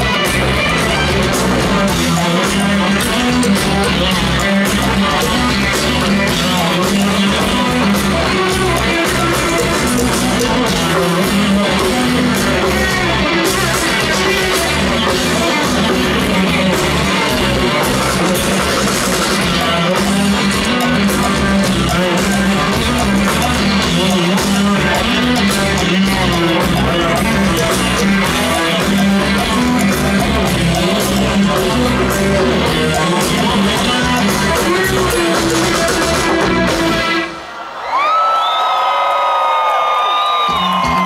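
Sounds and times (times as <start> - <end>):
bass line: 0.0 - 37.3
electric guitar: 0.0 - 37.6
live rock band playing: 0.0 - 37.8, 40.2 - 41.0.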